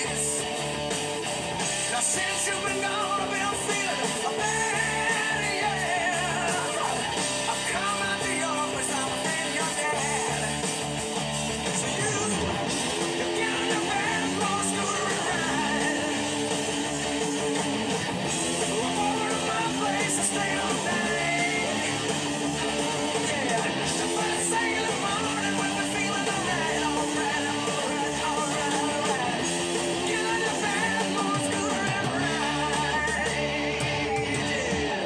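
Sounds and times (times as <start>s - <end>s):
hard rock music: 0.0s - 35.0s.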